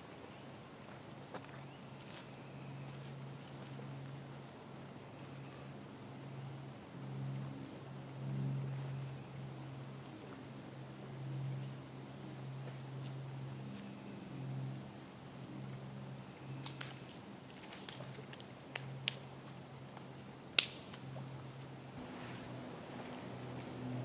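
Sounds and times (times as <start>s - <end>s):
insects chirping chorus: 0.0s - 24.0s
low steady hum: 0.0s - 24.0s.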